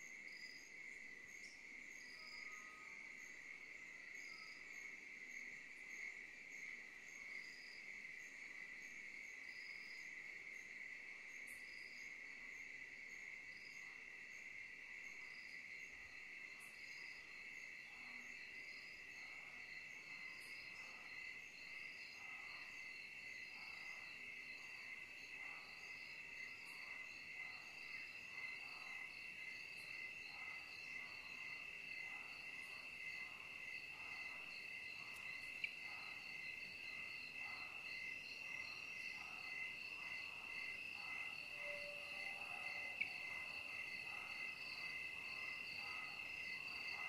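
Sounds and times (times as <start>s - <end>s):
faint low insect calls: 0.0s - 47.0s.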